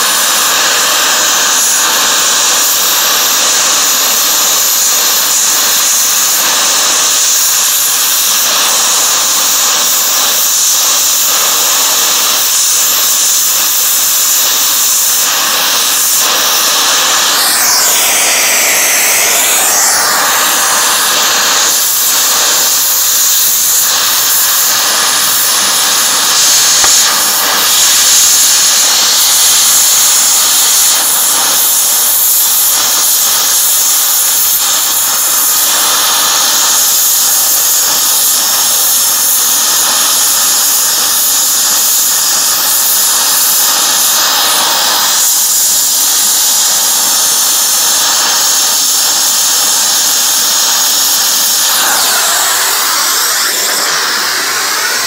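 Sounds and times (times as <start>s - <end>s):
cutting torch flame hissing: 0.0s - 55.0s.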